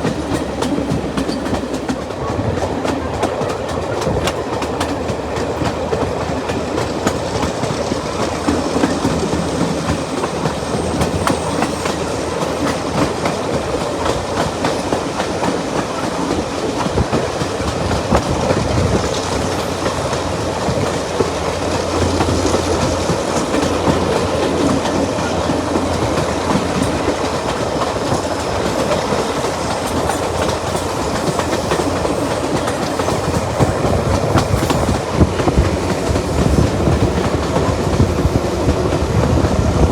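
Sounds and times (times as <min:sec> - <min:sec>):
locomotive engine drone: 0:00.0 - 0:39.9
train rumbling on track: 0:00.0 - 0:39.9
wheels clicking over rail joints: 0:00.0 - 0:39.9.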